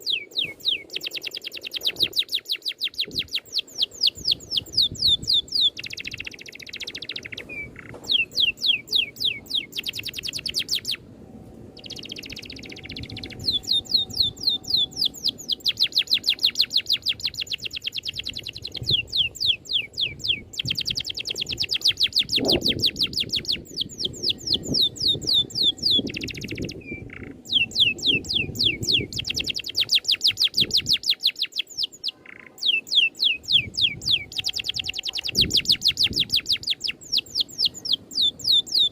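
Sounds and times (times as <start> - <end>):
songbird trilling: 0.0 - 11.0, 11.7 - 38.9.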